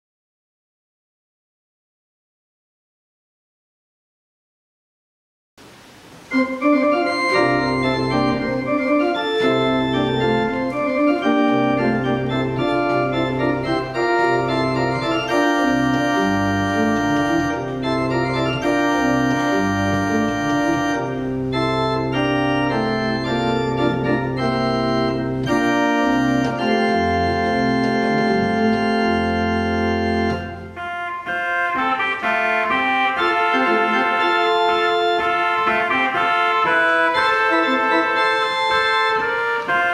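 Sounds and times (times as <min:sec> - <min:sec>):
pipe organ playing chords: 0:06.2 - 0:39.9.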